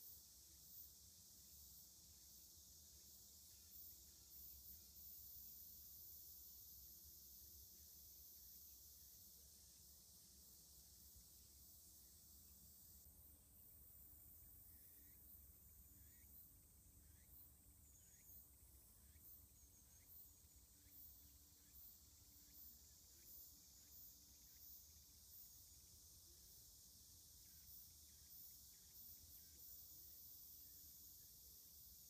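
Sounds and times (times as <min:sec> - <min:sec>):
small insect chirps: 0:00.0 - 0:32.0.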